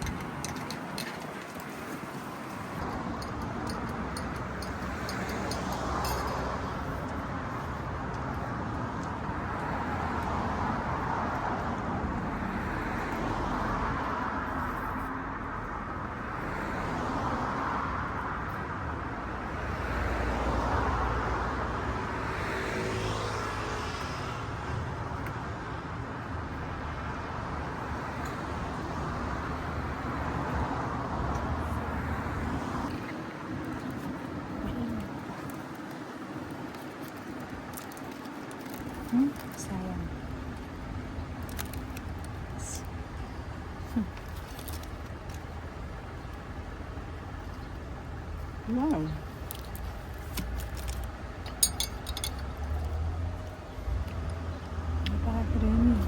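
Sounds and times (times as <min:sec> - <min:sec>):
passing cars: 0:00.0 - 0:56.0.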